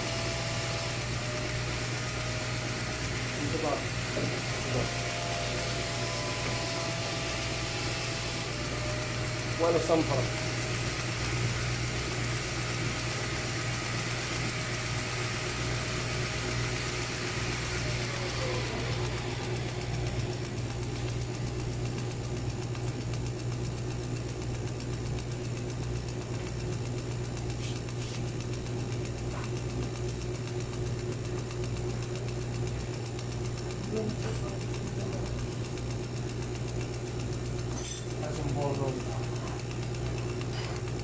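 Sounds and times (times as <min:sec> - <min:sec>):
cnc router humming: 0:00.0 - 0:41.0.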